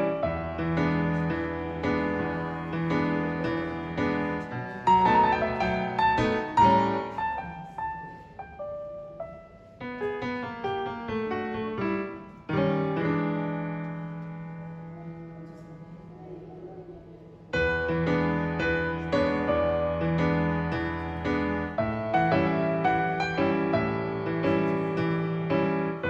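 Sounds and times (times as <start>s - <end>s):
bluesy piano music: 0.0s - 15.9s, 17.4s - 26.0s.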